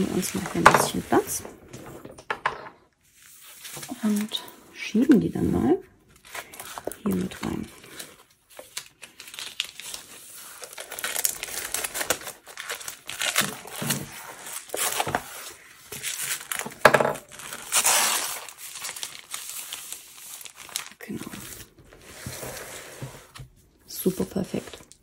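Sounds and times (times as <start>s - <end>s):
plastic sleeves crinkling: 3.1s - 25.0s.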